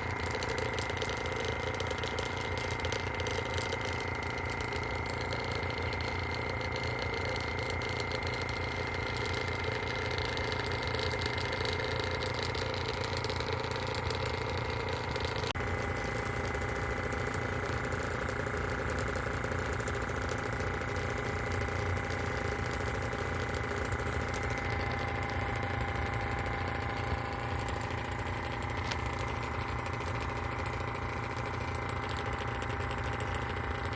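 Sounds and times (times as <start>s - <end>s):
vacuum pump running: 0.0s - 33.9s.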